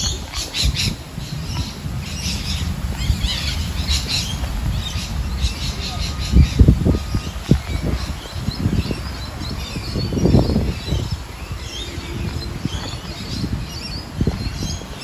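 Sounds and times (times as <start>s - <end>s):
birds chirping and squawking: 0.0s - 15.0s
wind buffeting thumps: 0.0s - 15.0s
wind rumble on microphone: 0.0s - 15.0s.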